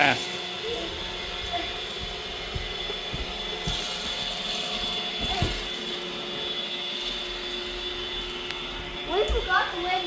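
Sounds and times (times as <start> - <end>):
robot vacuum whining: 0.0 - 10.0.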